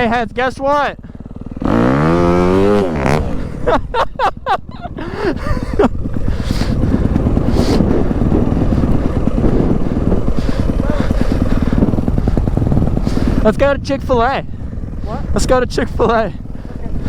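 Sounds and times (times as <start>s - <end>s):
dirt bike engine chattering: 0.0s - 17.0s.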